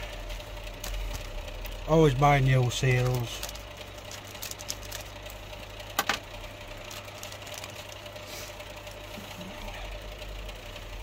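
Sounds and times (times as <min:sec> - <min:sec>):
heater humming: 0:00.0 - 0:11.0.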